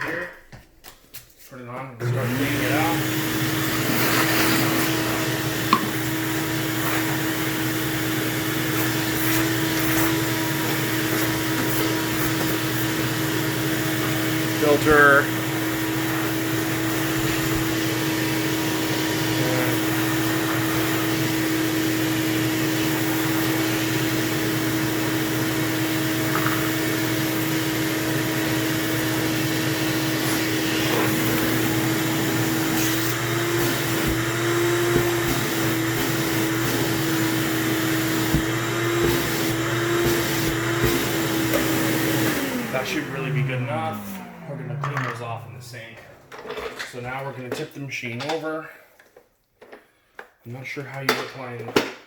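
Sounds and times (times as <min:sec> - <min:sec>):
shop vac motor whine: 0:02.0 - 0:47.0.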